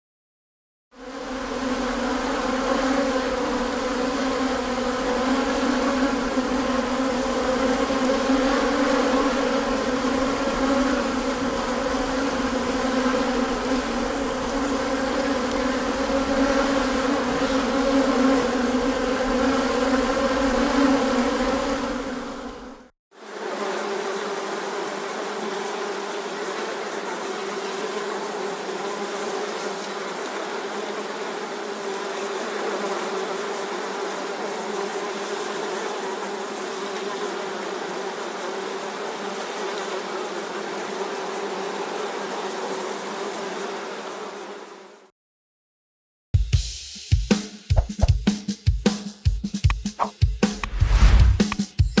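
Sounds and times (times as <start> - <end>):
bees buzzing: 1.0 - 45.0
lower-pitched bee swarm: 1.0 - 45.1.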